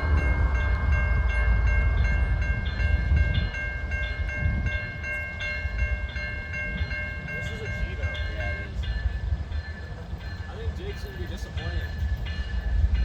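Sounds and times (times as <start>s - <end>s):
crossing bell dinging: 0.0s - 13.0s
freight train rumbling past: 0.0s - 13.0s.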